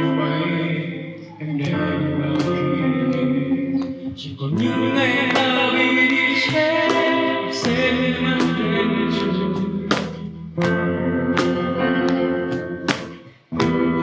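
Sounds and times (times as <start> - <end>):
live song with singing: 0.0 - 11.7.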